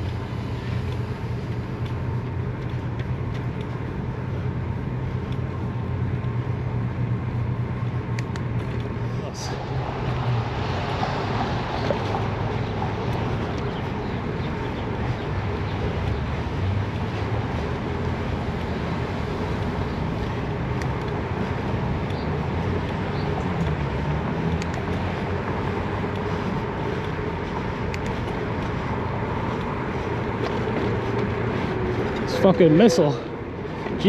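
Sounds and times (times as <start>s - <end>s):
wind rumble while cycling: 0.0s - 34.0s.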